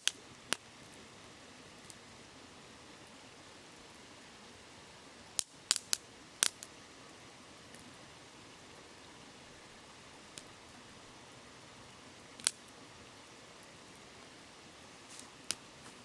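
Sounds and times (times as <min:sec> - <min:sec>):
campfire crackling and popping: 0:00.0 - 0:02.4, 0:05.1 - 0:16.0.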